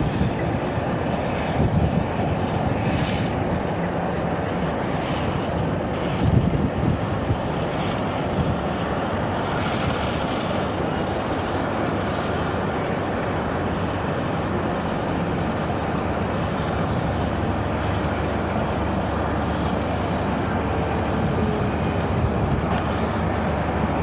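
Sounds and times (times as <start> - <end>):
diesel train rumbling: 0.0 - 24.0.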